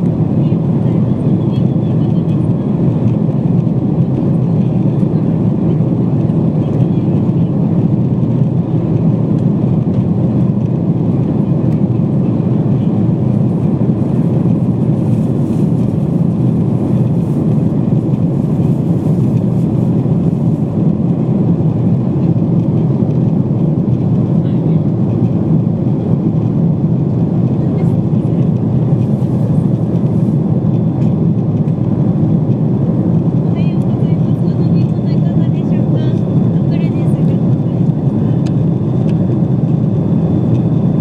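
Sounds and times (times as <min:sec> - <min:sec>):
airliner cabin engine rush: 0:00.0 - 0:41.0.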